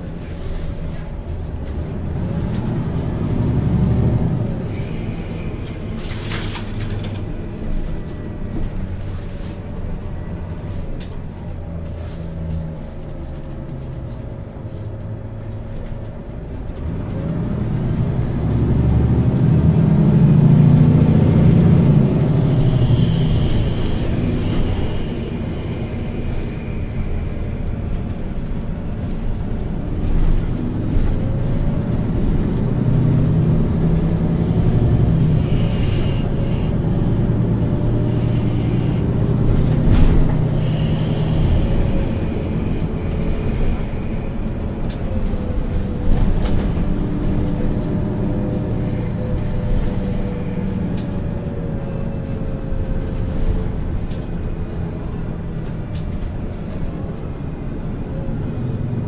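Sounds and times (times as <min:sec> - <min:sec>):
bus engine accelerating with whine: 0:00.0 - 0:59.0.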